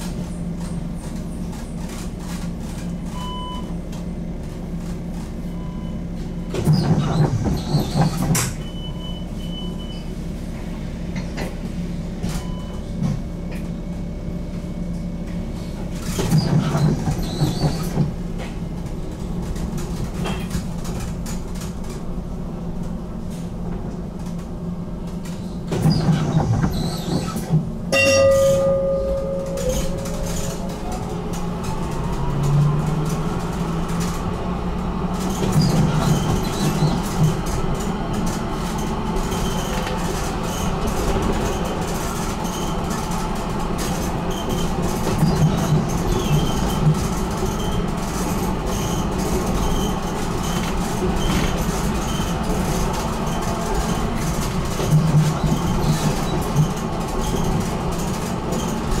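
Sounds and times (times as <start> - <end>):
tram hum: 0.0 - 59.0.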